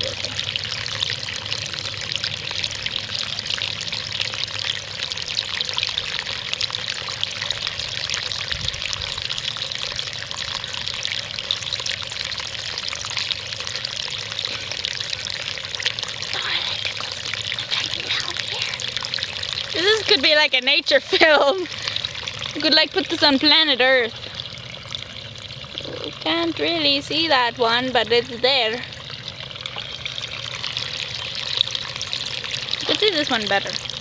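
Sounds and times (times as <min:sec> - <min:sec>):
stream water trickling and babbling: 0:00.0 - 0:34.0.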